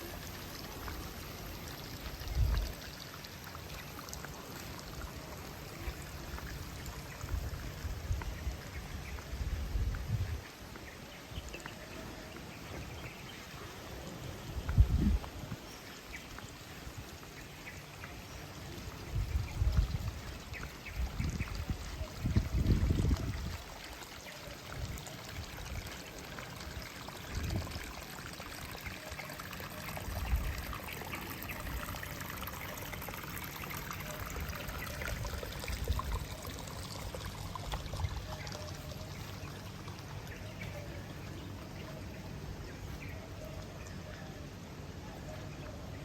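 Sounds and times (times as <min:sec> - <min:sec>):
water trickling and pouring: 0:00.0 - 0:44.3.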